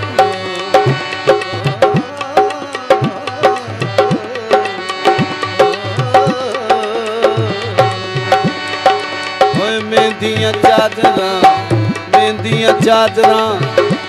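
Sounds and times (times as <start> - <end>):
harmonium melody: 0.0 - 14.0
tabla playing fast rhythm: 0.0 - 14.0.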